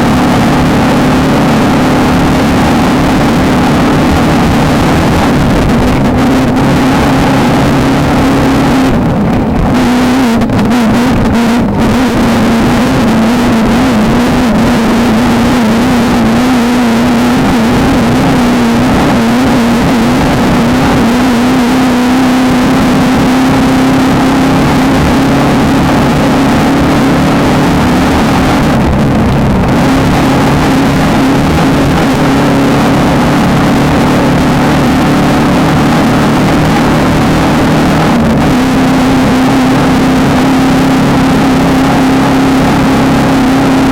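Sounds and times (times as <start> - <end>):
race car engine revving high: 0.0 - 43.9.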